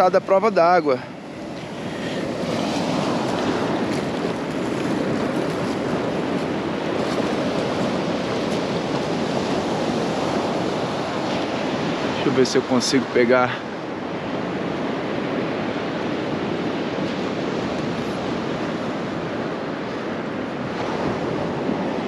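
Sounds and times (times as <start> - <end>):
ocean surf rushing: 0.0 - 22.0
wind on microphone: 0.6 - 22.0.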